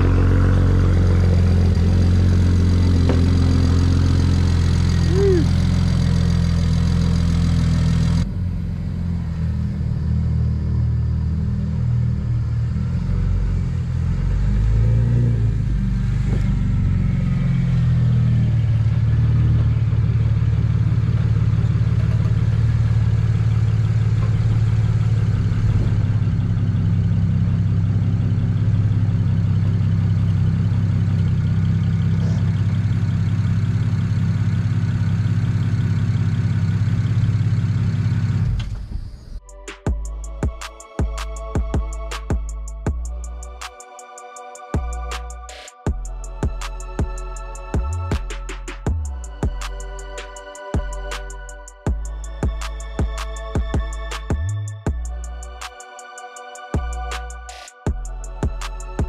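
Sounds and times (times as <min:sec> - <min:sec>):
car engine running: 0:00.0 - 0:43.6, 0:44.8 - 0:55.8, 0:56.8 - 0:59.0.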